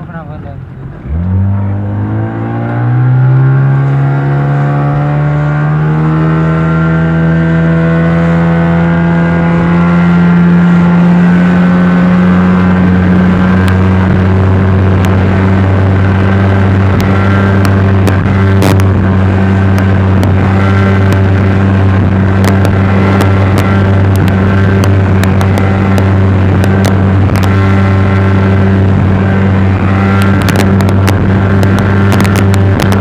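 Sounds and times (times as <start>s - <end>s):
speedboat engine drone: 0.0s - 33.0s.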